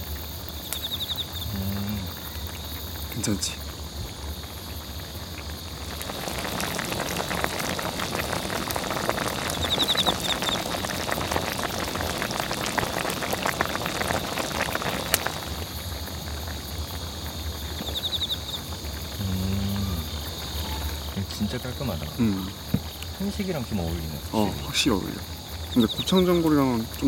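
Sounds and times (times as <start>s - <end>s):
hot pot bubbling: 0.0s - 27.0s.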